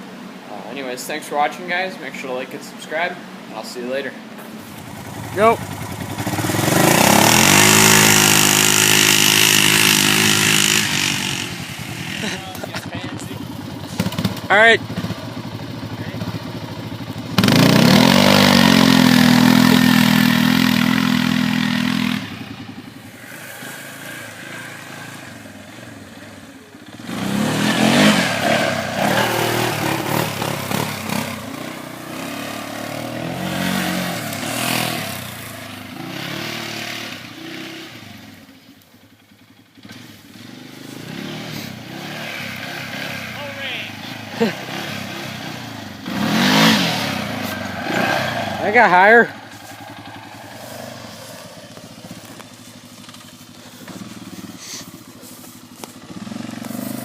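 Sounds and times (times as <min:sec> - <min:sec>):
off-road vehicle engine revving: 0:02.1 - 0:57.0.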